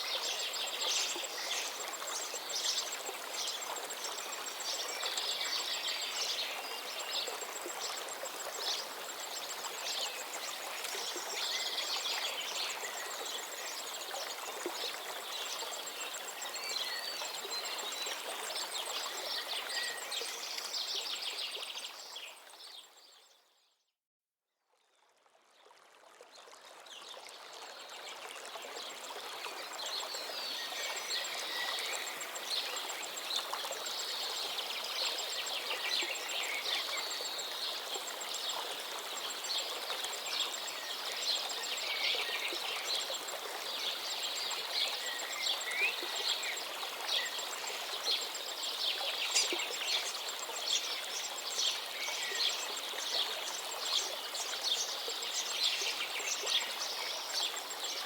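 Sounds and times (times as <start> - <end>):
flowing water rushing: 0.0 - 22.8, 25.6 - 58.0.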